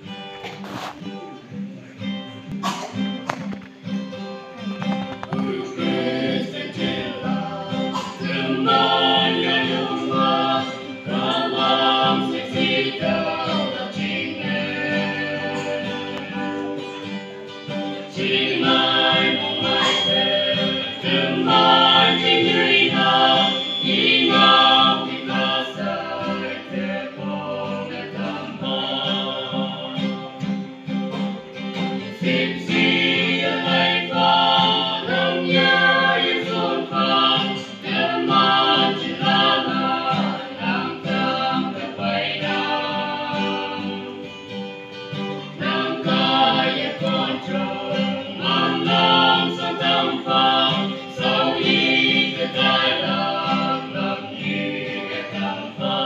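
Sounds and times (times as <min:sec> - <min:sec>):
strummed guitar: 0:00.0 - 0:56.0
group singing a hymn in harmony: 0:04.6 - 0:56.0.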